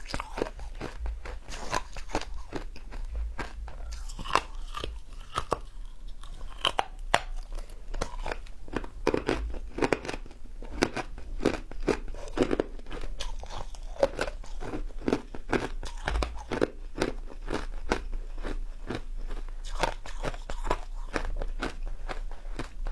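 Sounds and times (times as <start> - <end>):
crunchy food chewing: 0.0 - 22.9.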